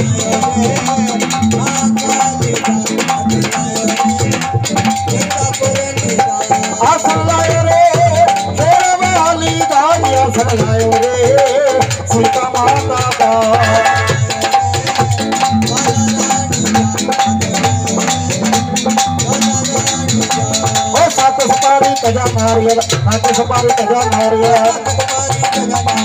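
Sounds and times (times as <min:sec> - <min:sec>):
drums and rattling percussion: 0:00.0 - 0:26.0.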